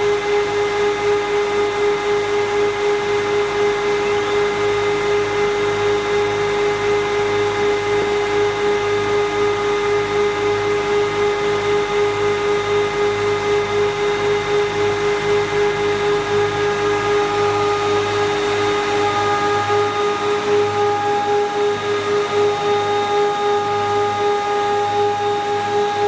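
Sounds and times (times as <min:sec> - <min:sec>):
spindle motors whining: 0:00.1 - 0:26.0.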